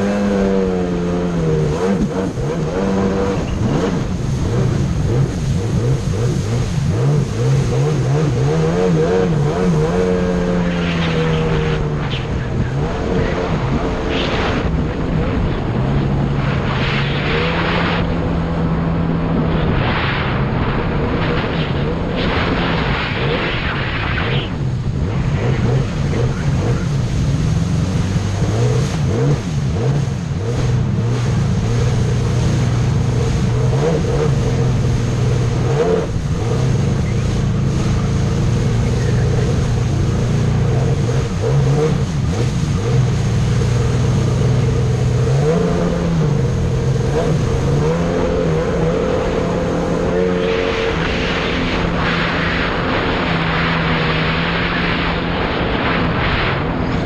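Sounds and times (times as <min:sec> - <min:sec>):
jet ski engine running: 0:00.0 - 0:57.0
water rushing against hull: 0:00.0 - 0:57.0.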